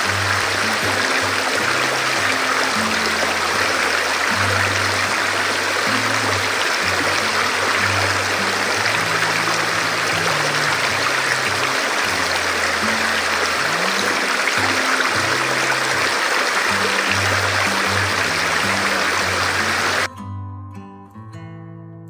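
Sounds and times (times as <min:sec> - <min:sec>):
rushing water: 0:00.0 - 0:20.1
slow low-note background music: 0:00.0 - 0:22.0.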